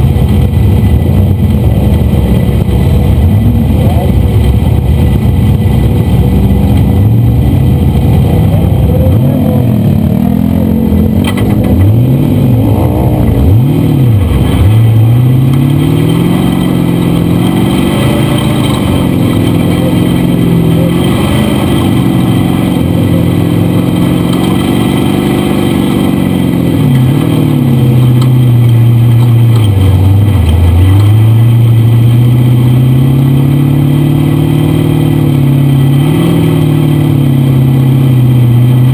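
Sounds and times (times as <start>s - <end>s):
dune buggy engine revving: 0.0s - 38.9s.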